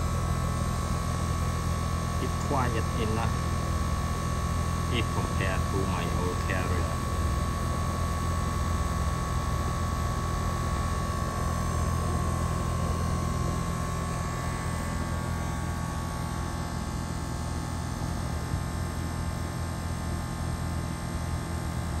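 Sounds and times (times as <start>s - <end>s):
low hum: 0.0s - 18.7s.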